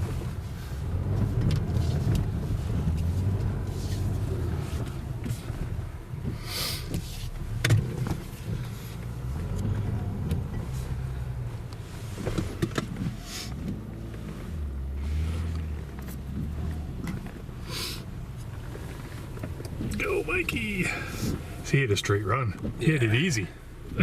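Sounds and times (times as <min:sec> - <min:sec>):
car engine under load: 0:00.0 - 0:24.0.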